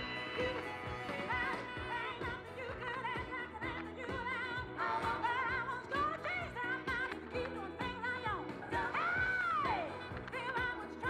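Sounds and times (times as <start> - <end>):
operatic singing voice with vibrato: 0.0 - 11.0
sustained musical accompaniment: 0.0 - 11.0.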